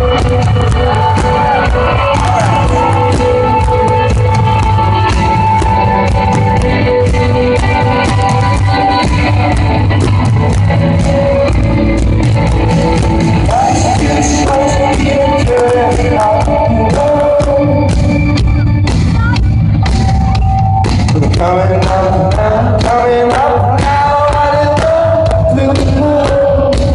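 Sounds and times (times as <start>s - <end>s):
person singing: 0.0s - 19.5s, 20.5s - 26.9s
drum kit: 0.0s - 26.9s
electric guitars: 0.0s - 26.9s.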